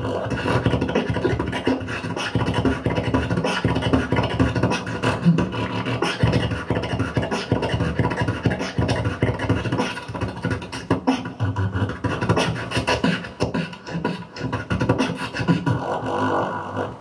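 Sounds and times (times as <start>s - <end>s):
beatboxing through a microphone: 0.0s - 17.0s.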